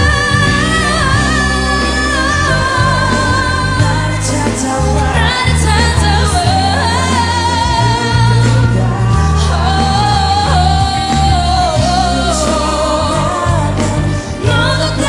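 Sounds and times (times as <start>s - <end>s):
backing vocalists singing: 0.0s - 15.0s
full band playing: 0.0s - 15.0s
woman singing pop ballad: 0.0s - 15.0s.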